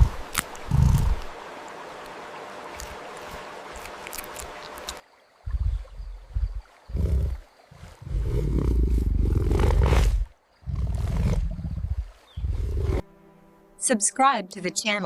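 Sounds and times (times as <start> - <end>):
running water: 0.0 - 13.2.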